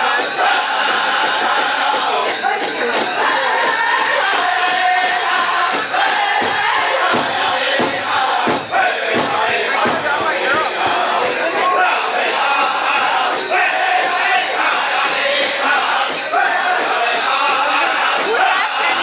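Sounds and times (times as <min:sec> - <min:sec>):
drum group singing: 0:00.0 - 0:19.0
steady drumbeat: 0:00.0 - 0:19.0.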